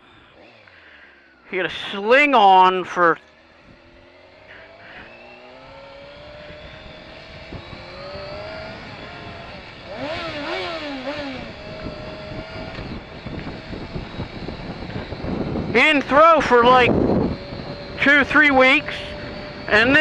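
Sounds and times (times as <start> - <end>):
motorcycle engine revving: 0.0 - 20.0
wind rumble: 3.4 - 20.0.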